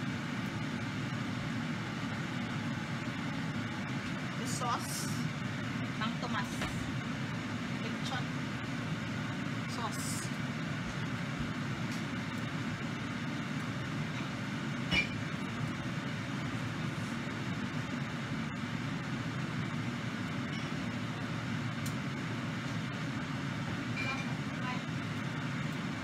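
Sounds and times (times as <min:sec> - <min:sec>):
low mechanical drone: 0:00.0 - 0:26.0.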